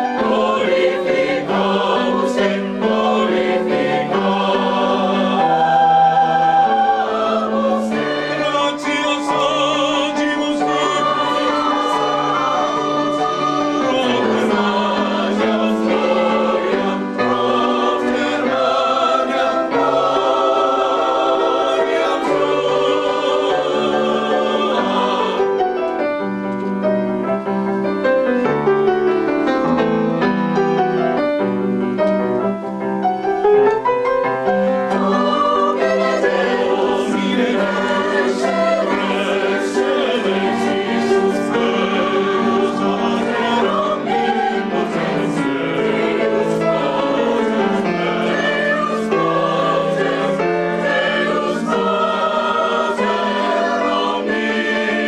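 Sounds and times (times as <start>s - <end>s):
choir singing in parts: 0.0s - 26.4s, 34.3s - 55.0s
grand piano: 0.0s - 55.0s.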